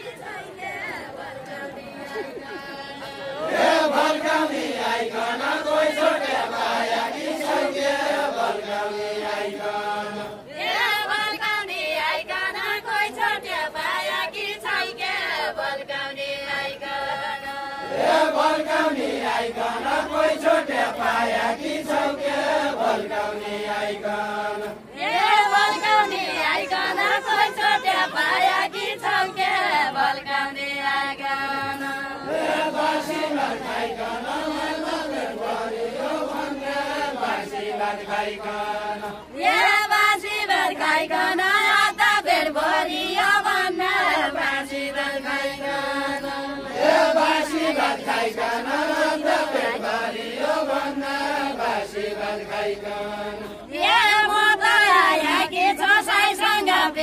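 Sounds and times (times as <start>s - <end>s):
group singing folk song: 0.0s - 57.0s.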